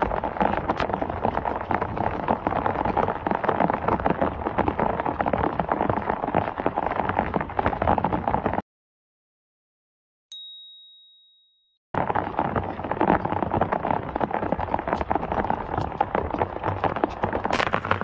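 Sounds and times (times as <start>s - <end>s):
water running across ground: 0.0s - 8.6s, 12.0s - 18.0s.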